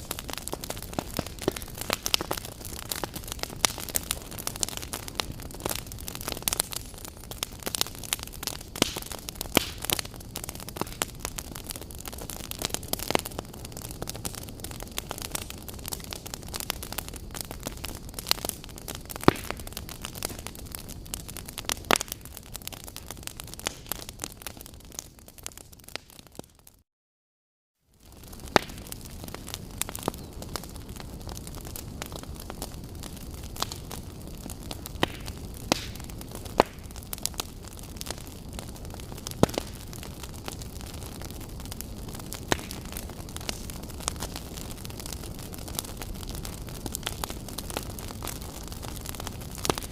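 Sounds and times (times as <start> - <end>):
fire crackling and popping: 0.0 - 26.8, 27.9 - 49.9
low rumble of flames: 0.0 - 26.8, 27.9 - 49.9.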